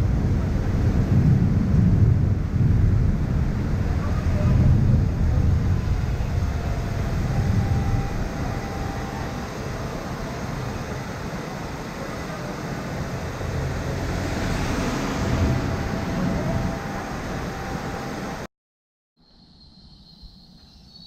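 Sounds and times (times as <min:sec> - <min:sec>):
wind buffeting microphone: 0:00.0 - 0:18.4
torrential rain: 0:00.0 - 0:18.5
waterfall roaring: 0:00.0 - 0:18.5.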